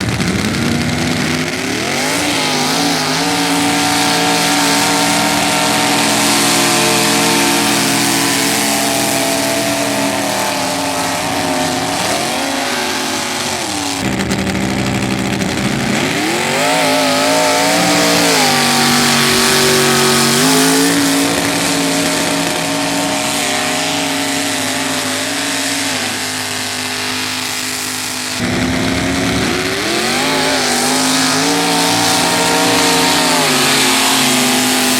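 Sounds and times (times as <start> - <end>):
truck engine revving hard: 0.0 - 34.9.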